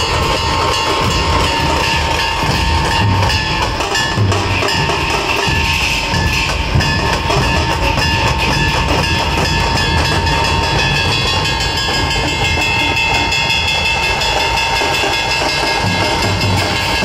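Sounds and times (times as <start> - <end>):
barrel drums beating: 0.0 - 17.0
metallic ringing: 0.0 - 17.0.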